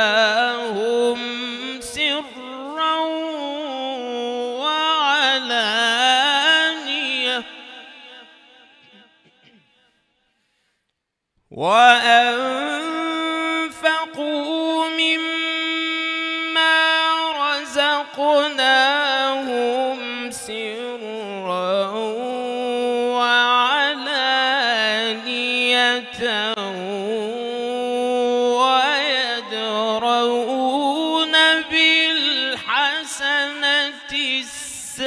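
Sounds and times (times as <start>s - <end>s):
man chanting recitation: 0.0s - 9.0s, 11.5s - 35.0s.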